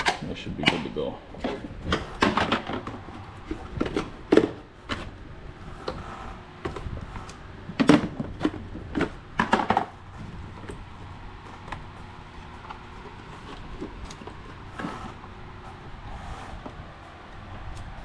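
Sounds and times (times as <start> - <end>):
hard parts clicking and knocking: 0.0 - 5.2, 5.8 - 15.8.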